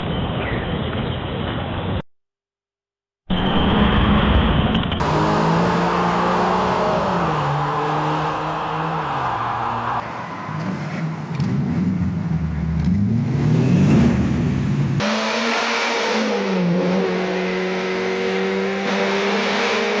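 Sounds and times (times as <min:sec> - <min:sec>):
car engine revving: 0:03.4 - 0:20.0.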